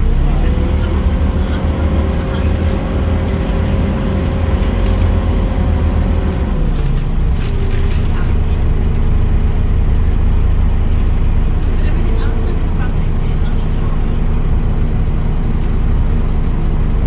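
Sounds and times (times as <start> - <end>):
bus engine rumble: 0.0 - 17.0
engine whine: 0.0 - 17.0.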